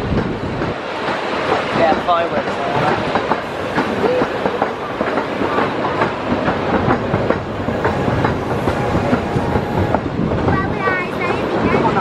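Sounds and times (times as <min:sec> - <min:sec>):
ride train rattling over rail joints: 0:00.0 - 0:12.0.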